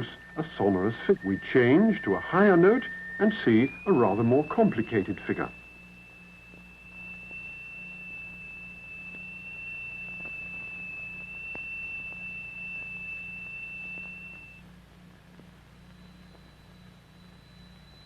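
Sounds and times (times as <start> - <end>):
faint low hum: 0.0 - 18.0
high-pitched pure tone: 0.0 - 18.0.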